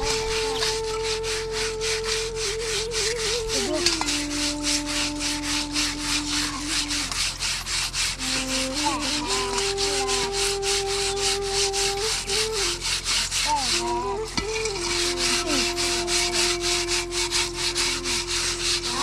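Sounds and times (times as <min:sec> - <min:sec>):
long held tones: 0:00.0 - 0:19.0
rhythmic scraping: 0:00.0 - 0:19.0.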